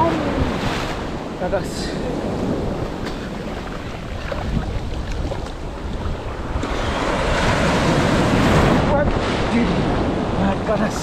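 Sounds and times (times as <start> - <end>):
sea waves rushing: 0.0 - 11.0
wind buffeting microphone: 0.0 - 11.0.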